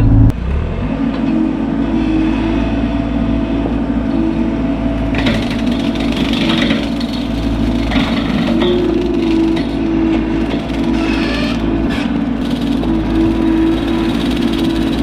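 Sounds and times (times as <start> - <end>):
diesel engine running: 0.0 - 15.0
hydraulic brush cutter whine: 0.0 - 15.0.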